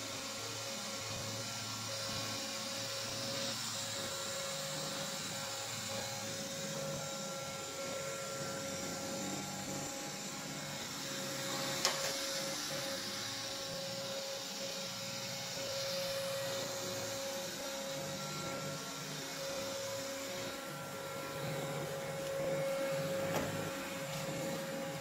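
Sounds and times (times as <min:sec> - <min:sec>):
robot vacuum humming and whining: 0:00.0 - 0:25.0.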